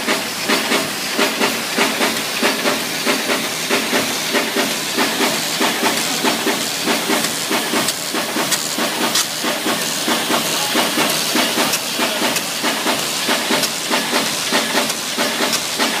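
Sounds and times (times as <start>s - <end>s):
fast mechanical clatter: 0.0s - 16.0s.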